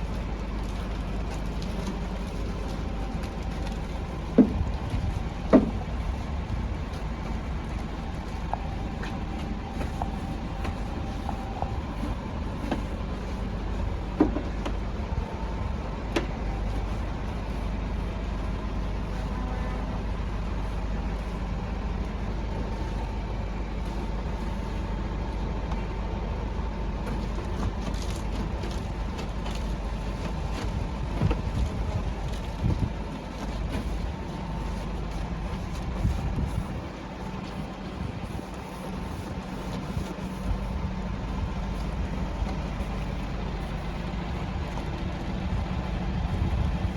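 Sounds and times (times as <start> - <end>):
motor rumbling: 0.0 - 46.9.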